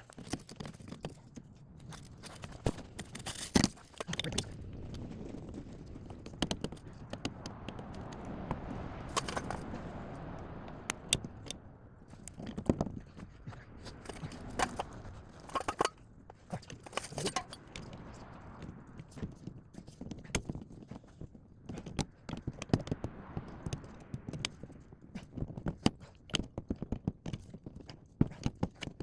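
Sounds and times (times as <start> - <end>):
low background rumble: 0.0 - 28.3.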